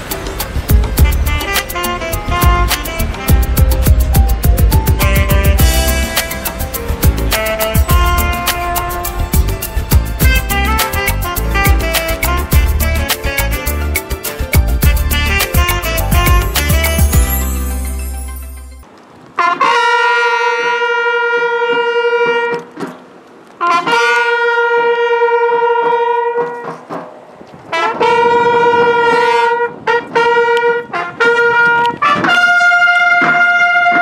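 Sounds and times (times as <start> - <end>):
solo trumpet long notes: 1.0 - 4.2, 4.8 - 18.8, 19.4 - 22.8, 23.6 - 26.8, 27.7 - 34.0.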